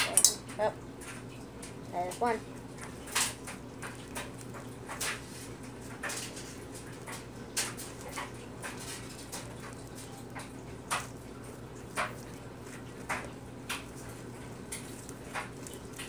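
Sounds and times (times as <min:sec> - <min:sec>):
slime squelching and popping: 0:02.8 - 0:16.0.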